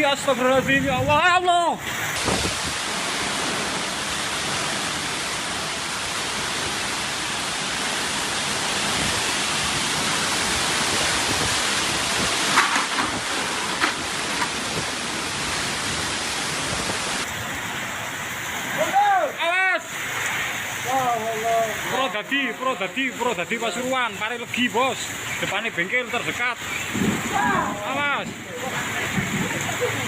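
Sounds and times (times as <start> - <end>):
heavy wind-driven rain: 0.0 - 30.0.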